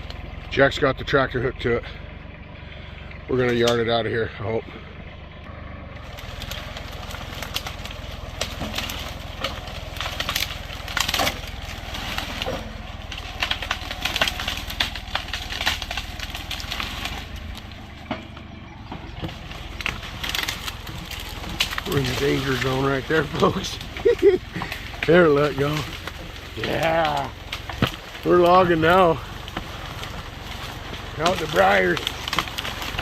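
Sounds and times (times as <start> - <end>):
tractor diesel engine running: 0.0 - 33.0
wood and branches cracking: 0.0 - 33.0.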